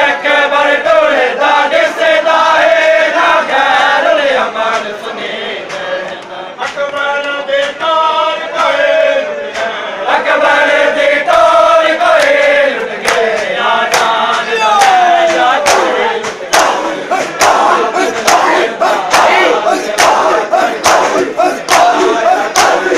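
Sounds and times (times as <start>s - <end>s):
men chanting a lament: 0.0s - 22.9s
rhythmic chest-beating slaps: 1.4s - 22.9s.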